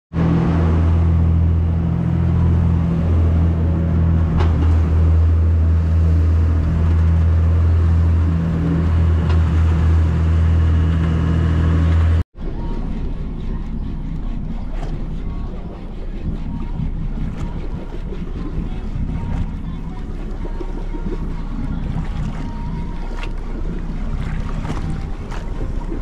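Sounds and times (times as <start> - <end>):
engine running steadily: 0.1 - 26.0.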